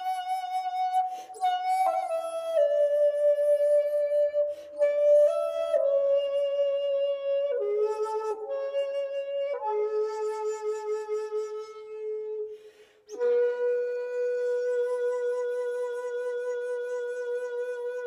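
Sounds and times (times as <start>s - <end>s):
bamboo flute melody: 0.0s - 18.0s.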